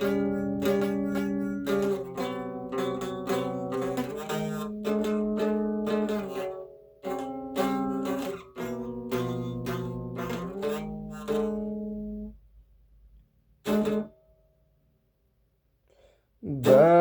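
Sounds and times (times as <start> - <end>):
plucked string instrument: 0.0 - 12.4, 13.6 - 14.8, 16.4 - 17.0.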